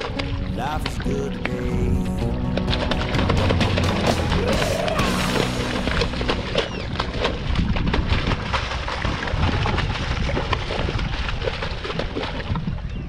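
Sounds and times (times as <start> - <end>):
water splashes: 0.0 - 12.9
wind rumbling on microphone: 0.0 - 13.0.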